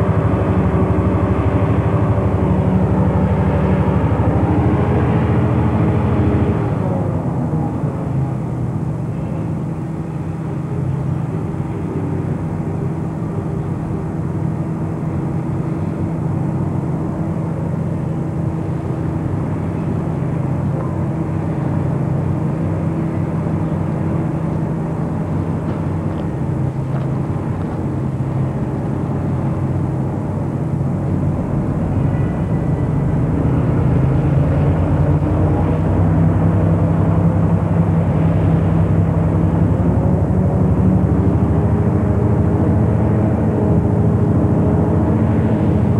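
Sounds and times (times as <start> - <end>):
locomotive diesel engine drone: 0.0 - 45.9.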